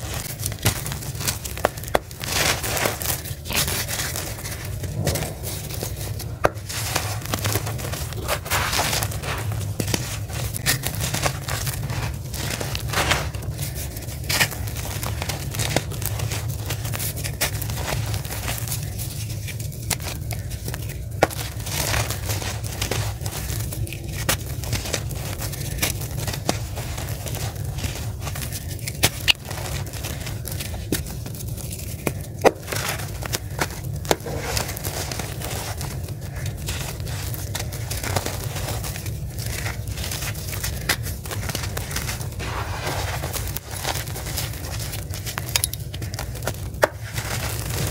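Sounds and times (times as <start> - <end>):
clod crunching and crackling: 0.0 - 47.9
grit pouring onto floor: 0.0 - 47.9
steady low hum: 0.0 - 47.9.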